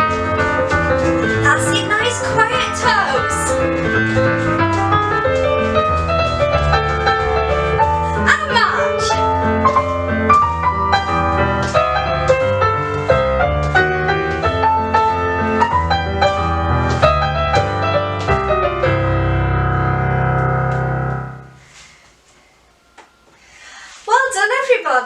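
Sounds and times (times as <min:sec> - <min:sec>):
piano music: 0:00.0 - 0:21.7.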